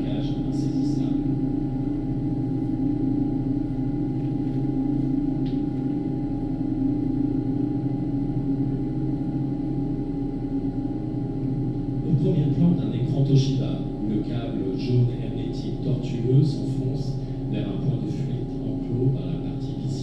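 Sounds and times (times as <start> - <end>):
low sustained drone tones: 0.0 - 20.0.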